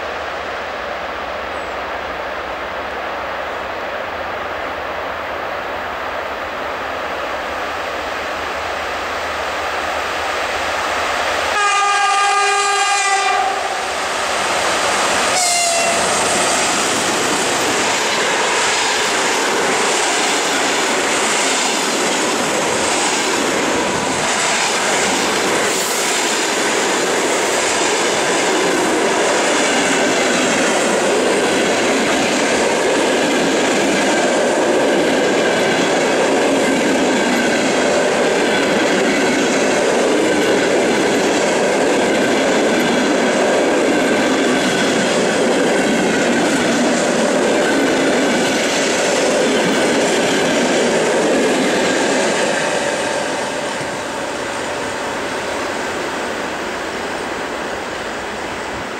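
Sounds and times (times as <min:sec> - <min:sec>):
train wheels rushing on rails: 0:00.0 - 0:58.9.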